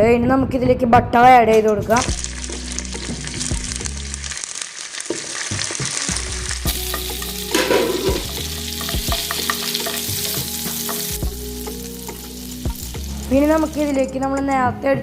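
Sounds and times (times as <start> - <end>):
butter sizzling in frying pan: 1.9 - 14.3.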